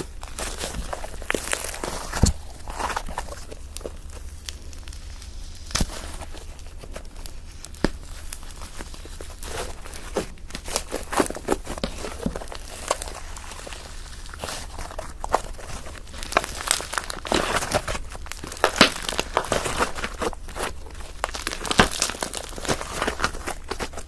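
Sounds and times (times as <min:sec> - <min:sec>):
slime squished with sticky crackles: 0:00.0 - 0:24.0.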